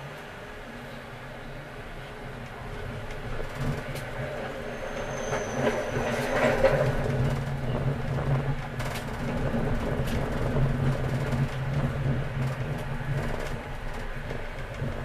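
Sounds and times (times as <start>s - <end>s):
tram drive humming: 0.0s - 15.0s.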